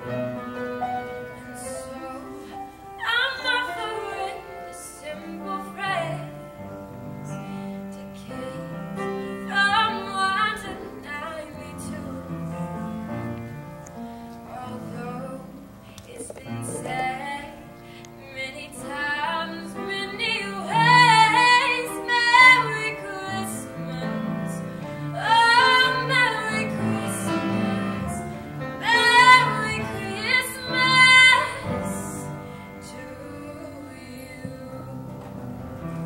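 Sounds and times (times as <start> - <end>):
soft held accompaniment: 0.0 - 36.0
woman singing a ballad: 1.2 - 13.6, 14.4 - 35.6.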